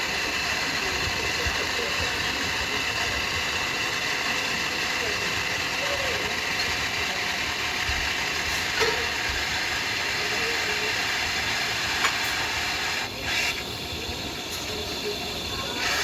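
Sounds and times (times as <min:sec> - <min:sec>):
coffee machine whirring and hissing: 0:00.0 - 0:16.0.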